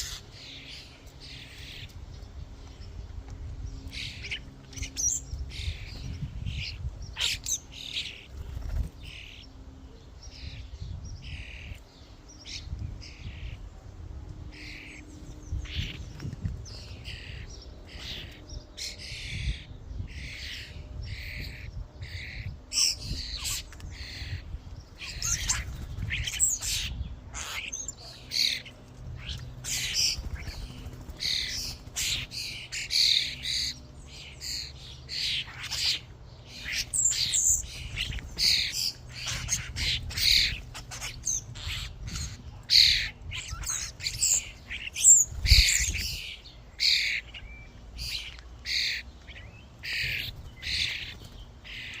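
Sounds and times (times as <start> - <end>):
starlings calling: 0.0 - 3.0, 3.6 - 13.7, 14.4 - 52.0.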